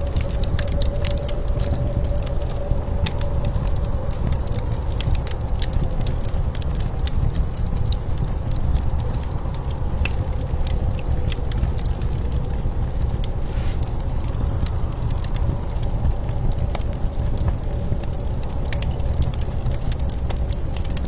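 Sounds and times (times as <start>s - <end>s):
low rumble of wind: 0.0s - 21.0s
wood fire crackling and popping: 0.0s - 21.0s.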